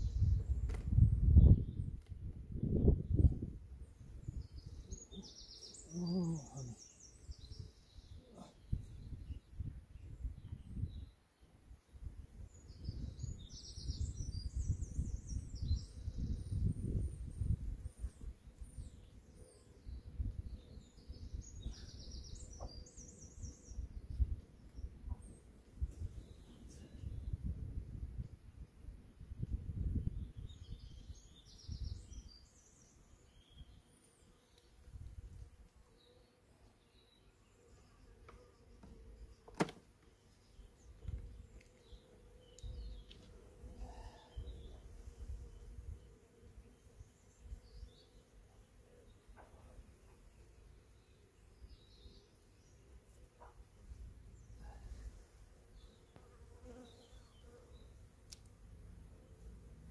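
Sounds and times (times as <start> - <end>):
songbirds singing: 0.0 - 58.5.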